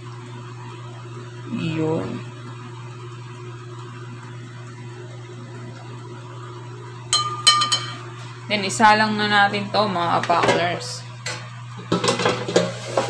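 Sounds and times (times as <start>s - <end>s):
low hum with faint hiss: 0.0s - 13.0s.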